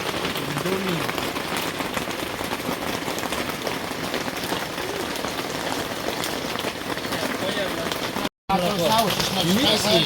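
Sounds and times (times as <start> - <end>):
steady hiss of water: 0.0 - 10.0.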